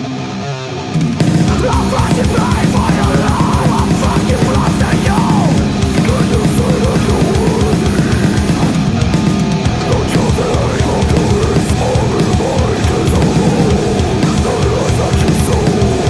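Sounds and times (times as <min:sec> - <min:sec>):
distorted electric guitars: 0:00.0 - 0:16.0
rapid drumming: 0:00.9 - 0:16.0.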